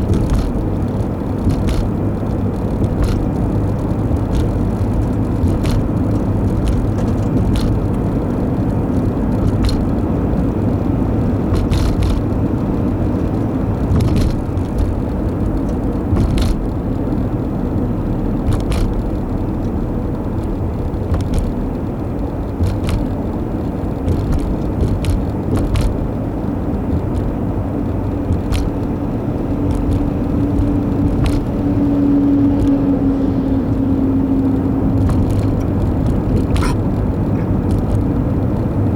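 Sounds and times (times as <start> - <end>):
car tyre and engine rumble: 0.0 - 38.9.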